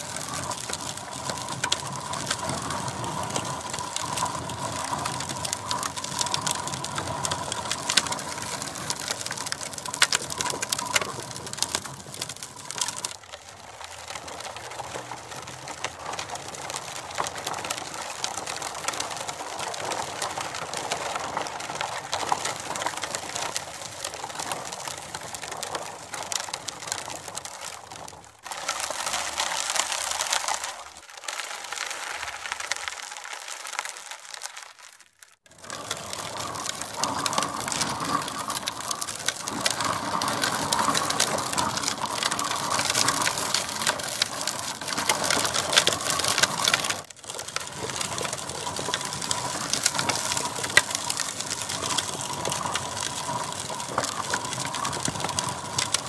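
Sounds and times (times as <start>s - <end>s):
plastic wheels rolling over gravel: 0.0s - 56.0s.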